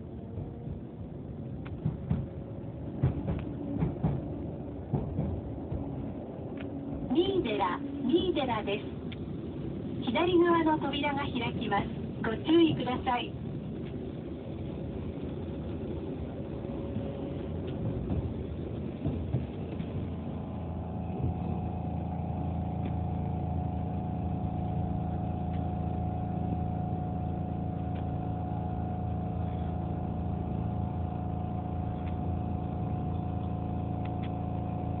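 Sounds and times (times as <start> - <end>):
electrical hum: 4.5 - 35.0.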